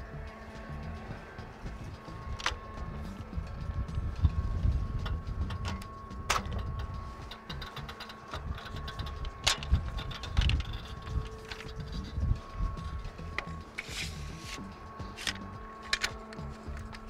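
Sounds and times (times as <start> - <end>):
low rumble: 0.0 - 17.0
sharp clicks and knocks: 1.7 - 17.0.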